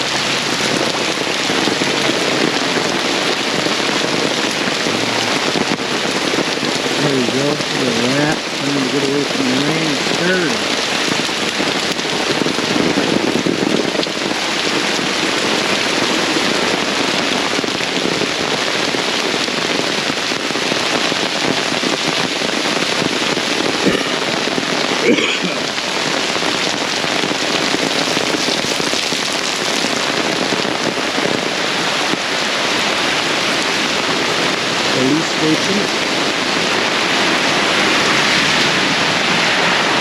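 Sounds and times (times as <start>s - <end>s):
heavy rain hissing: 0.0s - 40.0s.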